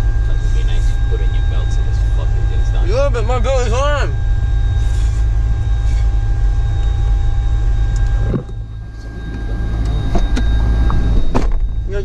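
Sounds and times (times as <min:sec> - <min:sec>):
car cabin engine and tyre rumble: 0:00.0 - 0:12.0.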